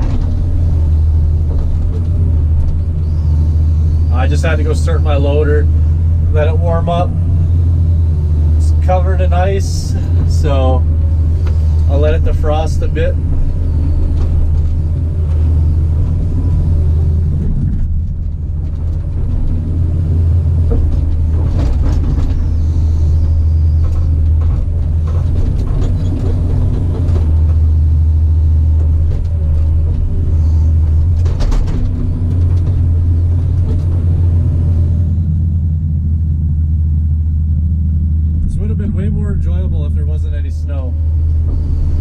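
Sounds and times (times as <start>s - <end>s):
diesel engine humming: 0.0s - 42.0s.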